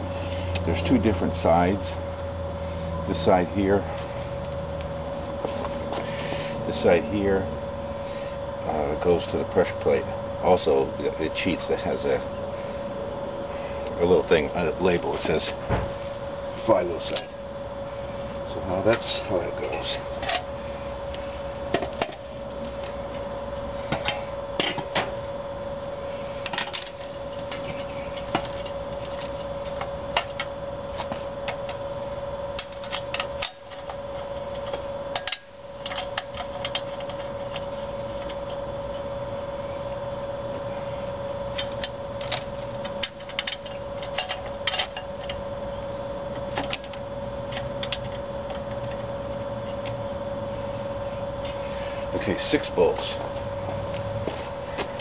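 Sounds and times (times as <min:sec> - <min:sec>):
steady background hum: 0:00.0 - 0:55.0.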